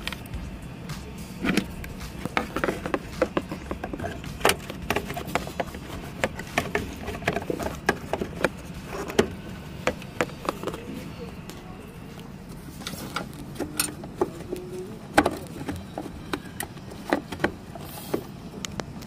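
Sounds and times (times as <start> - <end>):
plastic parts clicking and knocking: 1.4 - 10.9, 12.8 - 19.0.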